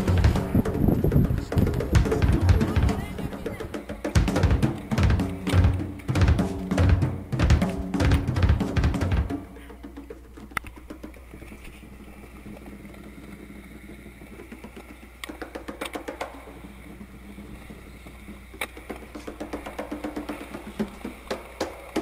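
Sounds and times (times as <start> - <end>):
skateboard wheels rolling on concrete: 0.0 - 22.0.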